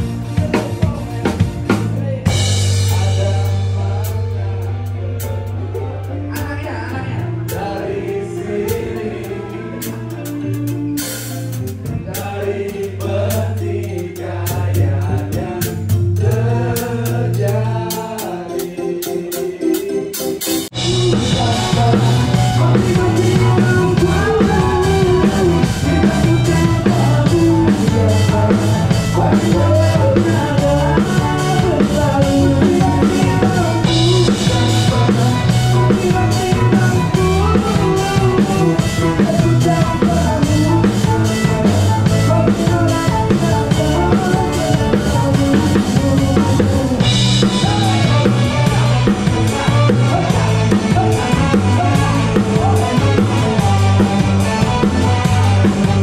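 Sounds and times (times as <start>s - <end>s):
drum kit: 0.0s - 56.0s
live band playing: 0.0s - 56.0s.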